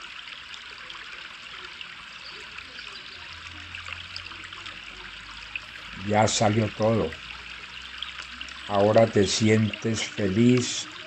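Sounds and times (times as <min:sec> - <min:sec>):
trickling running water: 0:00.0 - 0:11.0.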